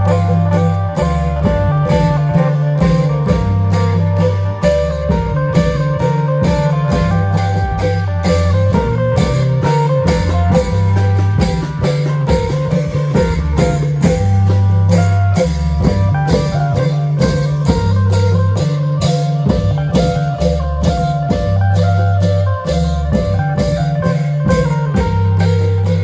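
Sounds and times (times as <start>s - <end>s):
amplified plucked-string melody: 0.0s - 26.0s
held bass line: 0.0s - 26.0s
long drums and percussion beating: 0.0s - 26.0s.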